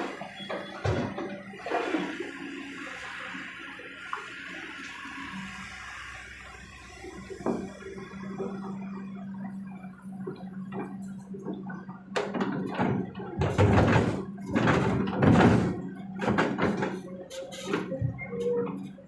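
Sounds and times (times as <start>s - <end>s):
excavator diesel engine humming: 0.0s - 19.0s.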